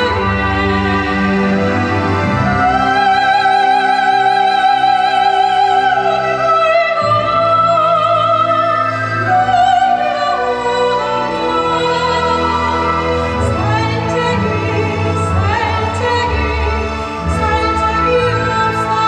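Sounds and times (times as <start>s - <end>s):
operatic singing: 0.0s - 19.0s.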